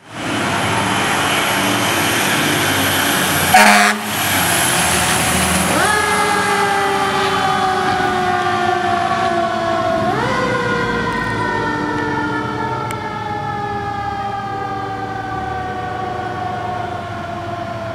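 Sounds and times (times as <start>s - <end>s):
fire truck siren wailing: 0.0s - 17.9s.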